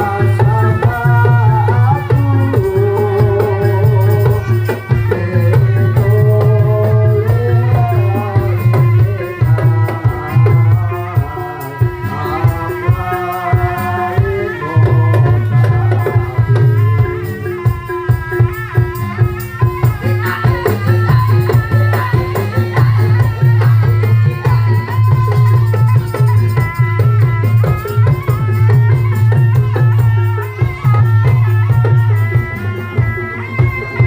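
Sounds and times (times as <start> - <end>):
drum and percussion strokes: 0.0 - 34.0.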